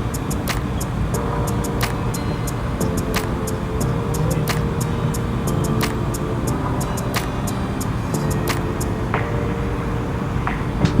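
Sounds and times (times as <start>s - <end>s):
plucked notes: 0.0s - 11.0s
soft background music: 0.0s - 11.0s.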